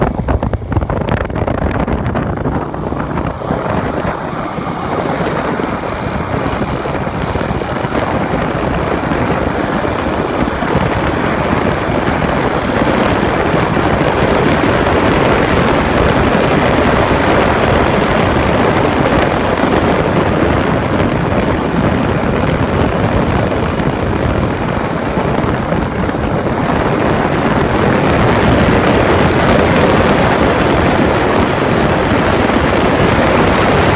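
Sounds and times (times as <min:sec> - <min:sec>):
engine ticking: 0:00.0 - 0:33.9
motorcycle engine running: 0:00.0 - 0:33.9.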